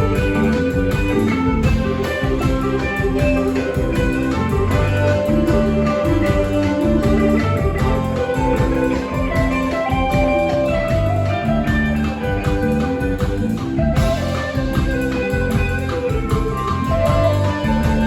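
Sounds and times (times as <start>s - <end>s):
bass: 0.0s - 18.0s
drums keeping a steady beat: 0.0s - 18.0s
electric guitar lines: 0.0s - 18.0s.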